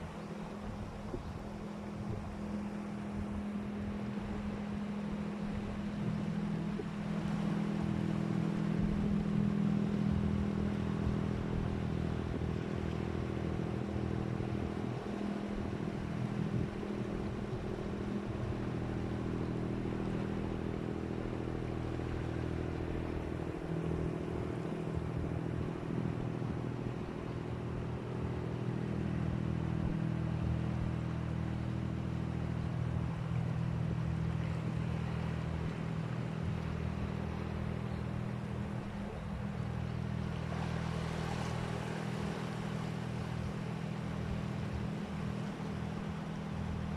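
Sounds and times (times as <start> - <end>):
engine droning steadily: 0.0 - 46.9.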